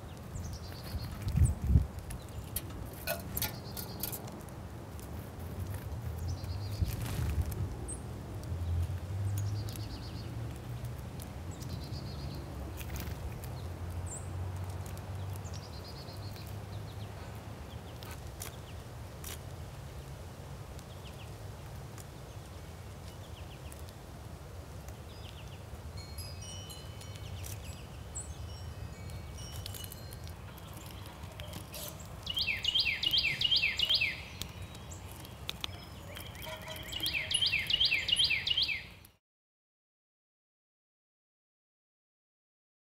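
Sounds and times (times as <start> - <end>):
songbirds chirping: 0.0 - 39.2.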